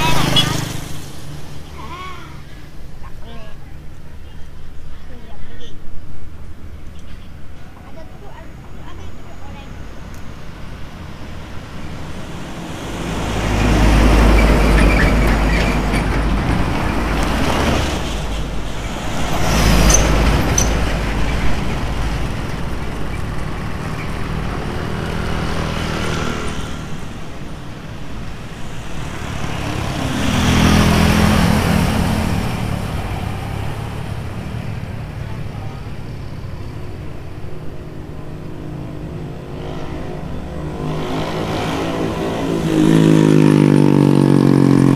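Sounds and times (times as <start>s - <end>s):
heavy trucks passing: 0.0s - 5.2s, 5.9s - 44.9s
road noise rumble: 0.0s - 44.9s.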